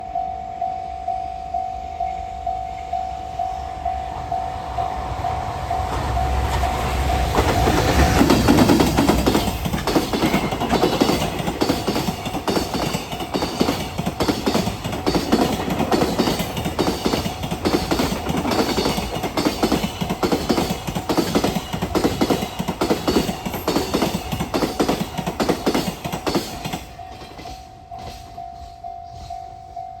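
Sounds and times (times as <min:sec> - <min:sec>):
freight train rumble: 0:00.0 - 0:30.0
level crossing warning bell: 0:00.0 - 0:30.0.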